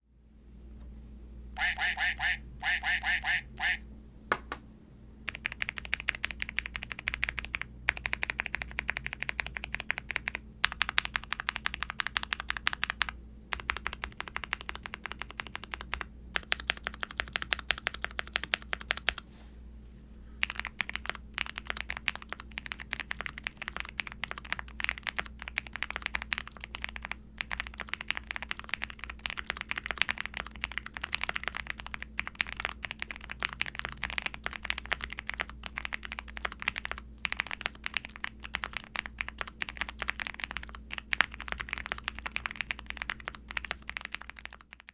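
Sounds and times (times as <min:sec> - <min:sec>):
mechanical keyboard typing: 0:05.3 - 0:19.2, 0:20.4 - 0:44.9.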